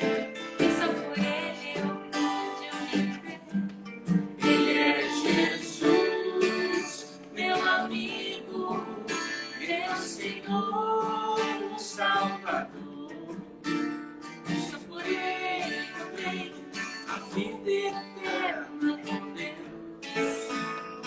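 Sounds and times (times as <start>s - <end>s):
person singing: 0.0s - 3.7s, 4.4s - 13.7s, 14.5s - 20.8s
strummed acoustic guitar: 0.0s - 21.0s.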